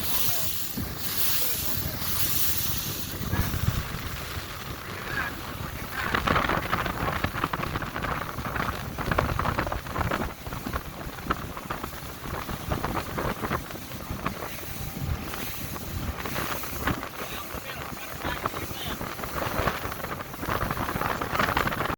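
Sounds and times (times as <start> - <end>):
motorboat engine rumble: 0.0 - 21.9
water splashing against hull: 0.0 - 21.9
wind buffeting microphone: 0.0 - 21.9.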